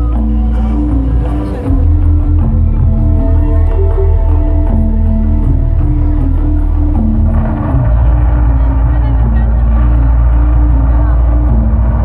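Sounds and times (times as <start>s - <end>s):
deep bass rumble: 0.0s - 12.0s.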